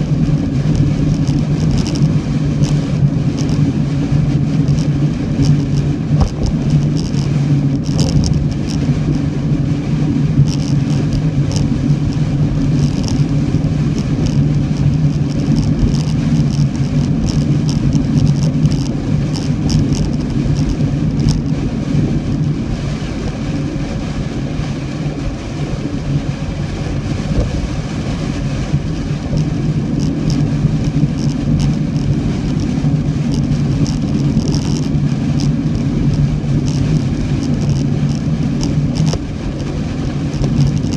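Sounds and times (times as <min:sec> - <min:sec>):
car engine and road drone: 0:00.0 - 0:40.9.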